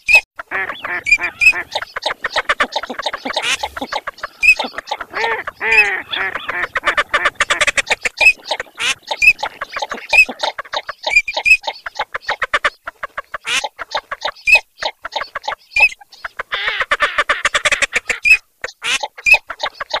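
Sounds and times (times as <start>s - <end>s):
drawn-out rasping duck calls: 0.4s - 20.0s
ducks clucking and quacking: 0.4s - 20.0s.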